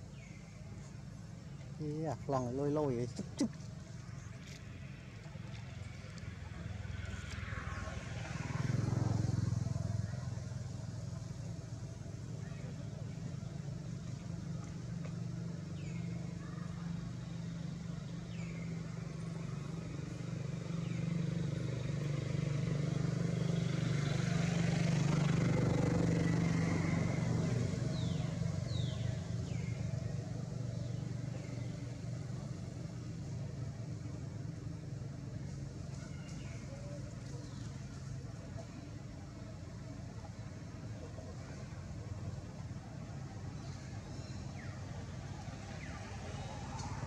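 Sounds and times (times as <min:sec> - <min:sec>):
vehicle engine passing by: 0:02.1 - 0:47.0.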